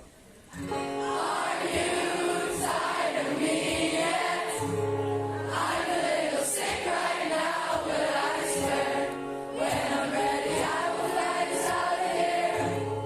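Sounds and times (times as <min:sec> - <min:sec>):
choir singing: 0:01.0 - 0:13.0.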